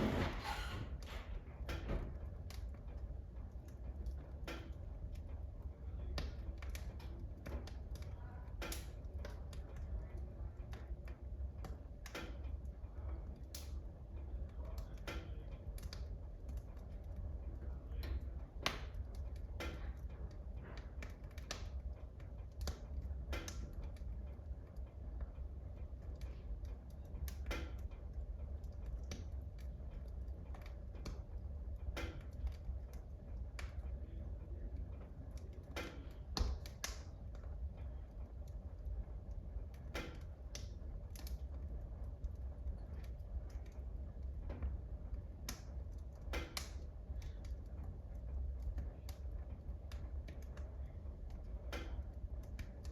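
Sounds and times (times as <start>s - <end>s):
logs crackling and popping: 0.0s - 52.9s
stove low rumble: 0.0s - 52.9s.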